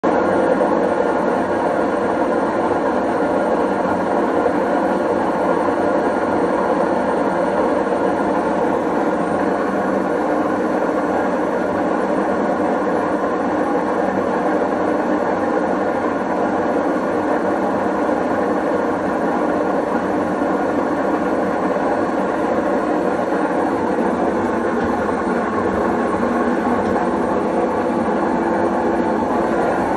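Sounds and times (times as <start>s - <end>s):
washing machine running: 0.0s - 29.9s.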